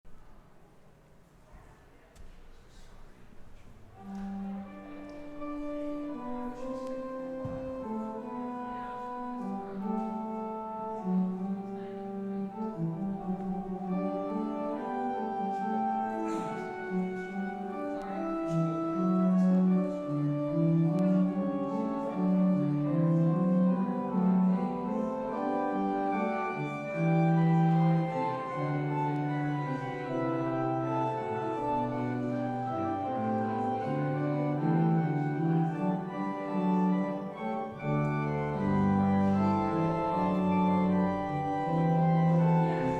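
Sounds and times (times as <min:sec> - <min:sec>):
slow organ music: 0:03.9 - 0:42.9.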